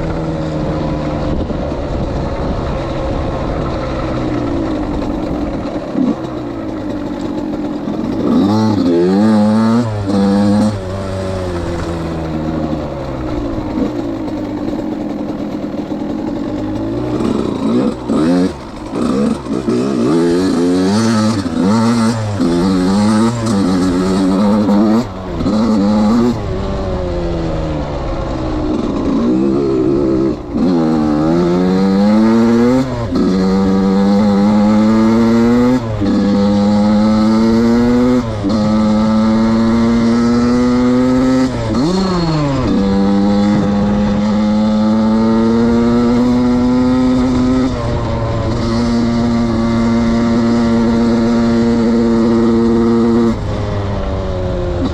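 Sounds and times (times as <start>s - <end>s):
two-stroke motorcycle engine revving: 0.0s - 54.9s.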